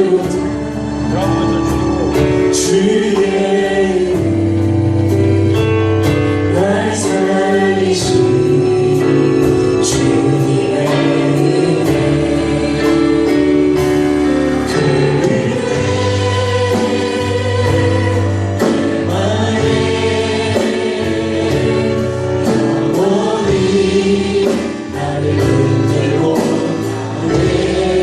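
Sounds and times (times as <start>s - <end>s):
bass line: 0.0s - 28.0s
choir singing gospel song: 0.0s - 28.0s.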